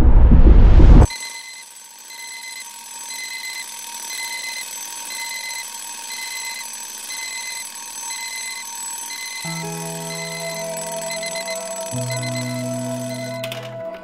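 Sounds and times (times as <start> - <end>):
alarm clock beeping: 1.1 - 14.0.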